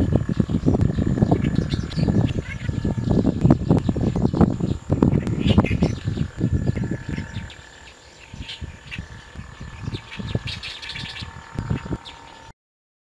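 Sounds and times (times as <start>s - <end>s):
birds chirping: 0.0s - 12.5s
low rumbling: 0.0s - 12.5s.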